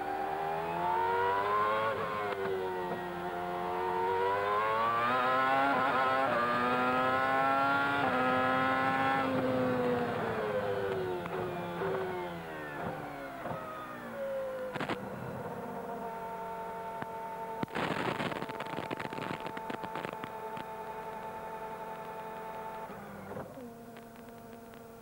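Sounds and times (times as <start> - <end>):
racing car engine downshifting: 0.0 - 25.0
engine crackling and rattling: 0.1 - 25.0.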